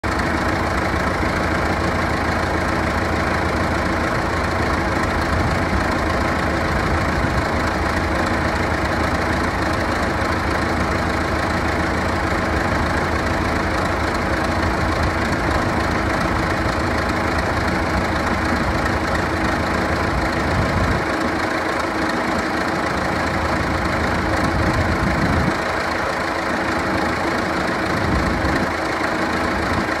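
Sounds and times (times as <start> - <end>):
bulldozer engine idling: 0.0 - 30.0.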